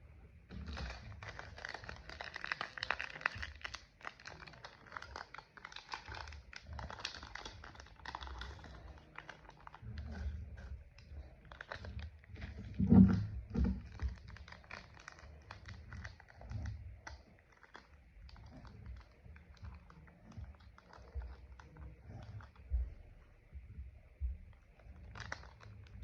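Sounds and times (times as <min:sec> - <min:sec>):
slime squelching: 0:00.0 - 0:26.0
slime clicking and crackling: 0:00.5 - 0:22.7, 0:24.5 - 0:26.0.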